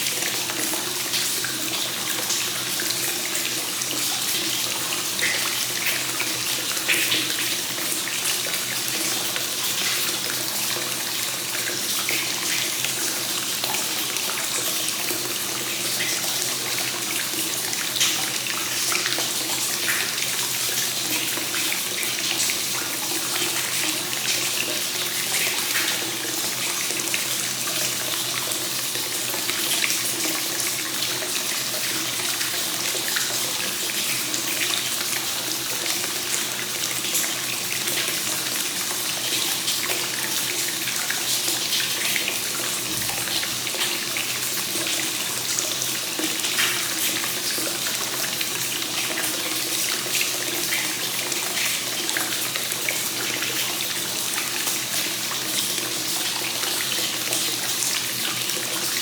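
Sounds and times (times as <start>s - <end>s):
water pouring into a bath: 0.0s - 59.0s.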